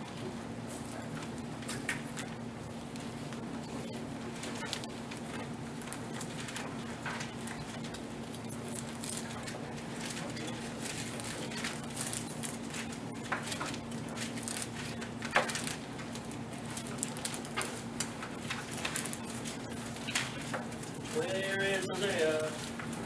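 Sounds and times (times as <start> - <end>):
steady low hum: 0.0 - 23.0
paper rustling and page flipping: 0.7 - 23.0.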